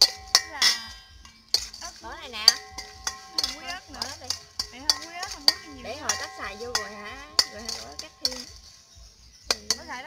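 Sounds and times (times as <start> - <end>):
metal spoon clinking on bowl: 0.0 - 10.0.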